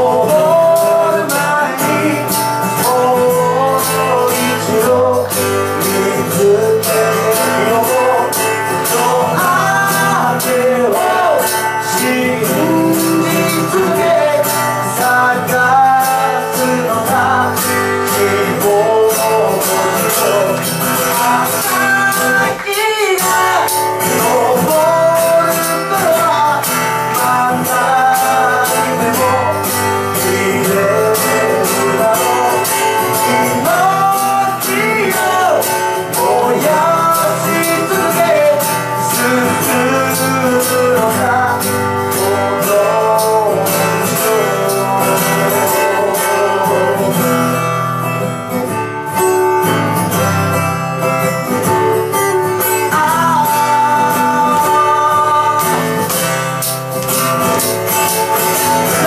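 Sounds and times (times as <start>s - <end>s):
man singing into a microphone: 0.0s - 48.2s, 51.5s - 59.0s
acoustic guitar: 0.0s - 59.0s.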